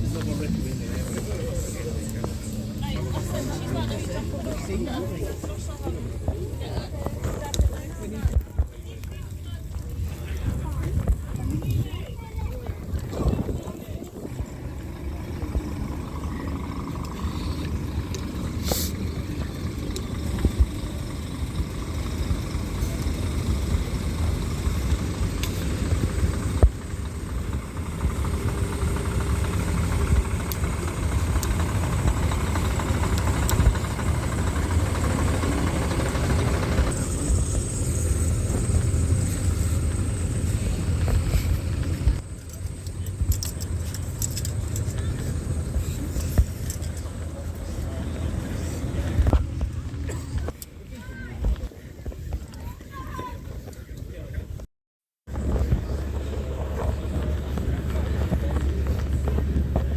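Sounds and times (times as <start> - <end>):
race car engines rumbling: 0.0 - 54.6, 55.3 - 59.9.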